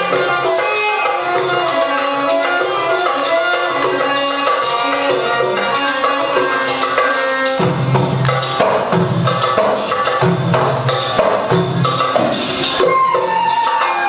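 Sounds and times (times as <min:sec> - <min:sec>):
belly dance music with drums: 0:00.0 - 0:14.0.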